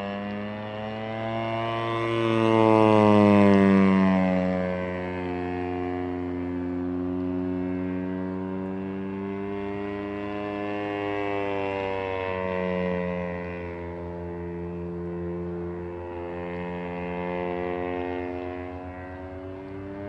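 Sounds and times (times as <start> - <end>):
biplane engine and propeller: 0.0 - 20.0.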